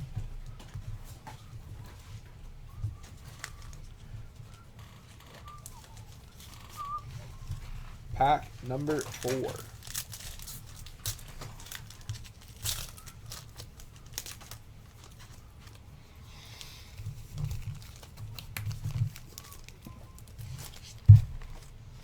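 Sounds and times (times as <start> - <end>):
foil wrapper crinkling and tearing: 3.0 - 22.0.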